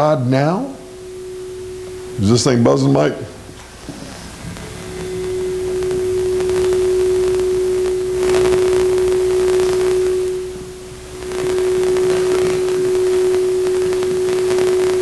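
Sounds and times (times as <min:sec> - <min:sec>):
microphone feedback tone: 0:00.0 - 0:15.0.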